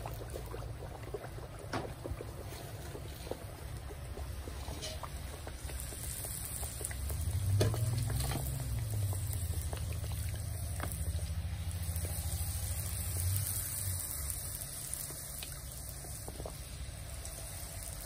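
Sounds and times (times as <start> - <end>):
dough deep-frying in oil: 0.0 - 18.0
steady low rumble: 0.0 - 18.0.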